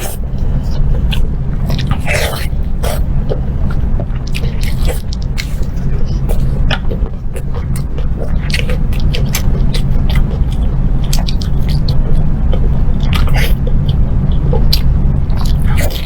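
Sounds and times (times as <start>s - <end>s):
crunchy chewing: 0.0s - 16.0s
steady low hum: 0.0s - 16.0s.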